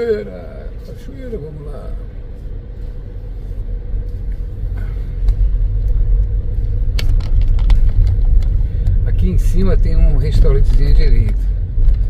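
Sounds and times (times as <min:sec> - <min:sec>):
vehicle rumbling on cobbles: 0:00.6 - 0:12.0.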